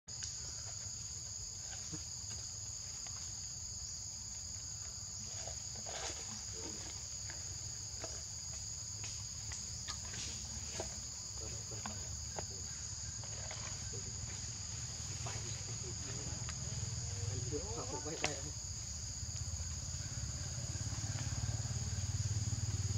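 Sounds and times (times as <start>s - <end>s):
high-pitched insect drone: 0.1s - 22.9s.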